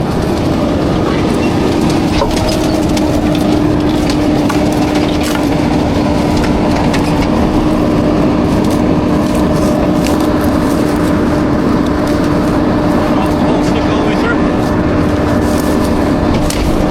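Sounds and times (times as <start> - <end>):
garbage truck rumble: 0.0 - 16.9
hydraulic whine: 0.0 - 16.9.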